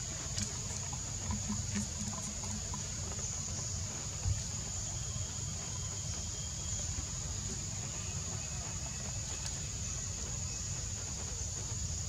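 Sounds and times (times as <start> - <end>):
faint ticks: 0.0 - 12.0.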